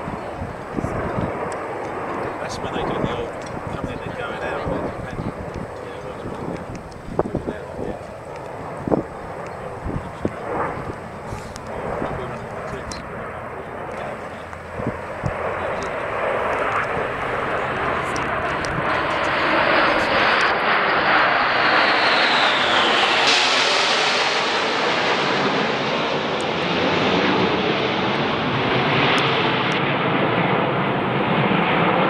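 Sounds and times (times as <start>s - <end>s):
falling jet whine: 0.0s - 32.0s
jet roar: 0.0s - 32.0s.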